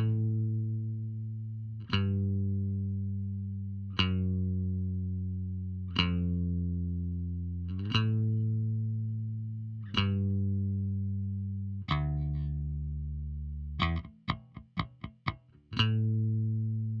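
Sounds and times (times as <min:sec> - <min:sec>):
electric bass notes ringing: 0:00.0 - 0:17.0.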